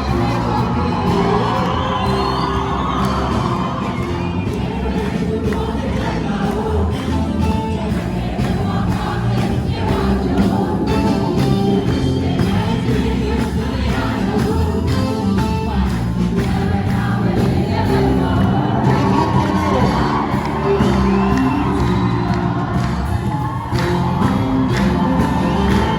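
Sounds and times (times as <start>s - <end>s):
choir and congregation singing: 0.0s - 25.9s
crowd voices: 0.0s - 25.9s
instrumental accompaniment: 0.0s - 25.9s.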